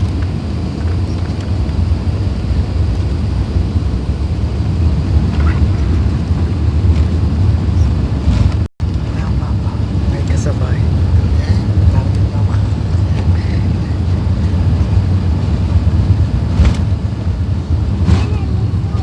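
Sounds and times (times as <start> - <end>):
airliner cabin engine roar: 0.0 - 19.0
airflow noise: 1.8 - 19.0.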